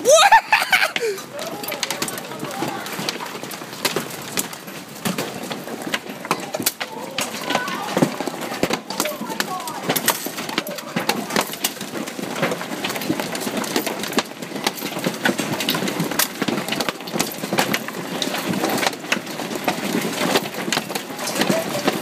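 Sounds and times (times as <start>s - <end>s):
hailstones pelting hard surfaces: 0.0s - 22.0s.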